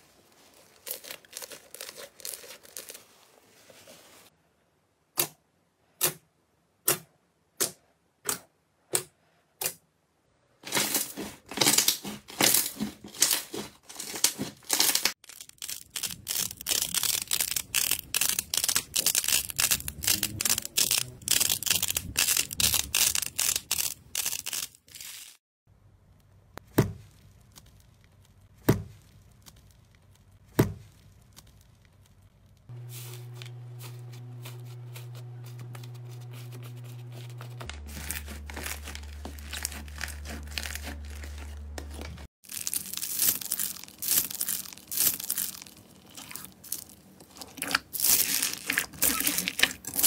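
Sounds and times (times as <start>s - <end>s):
slime crackling and crinkling: 0.0s - 4.3s, 10.6s - 25.4s, 27.0s - 50.0s.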